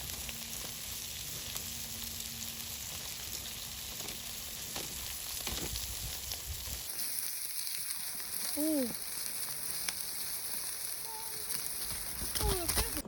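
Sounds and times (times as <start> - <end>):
meat sizzling in hot fat: 0.0 - 13.0.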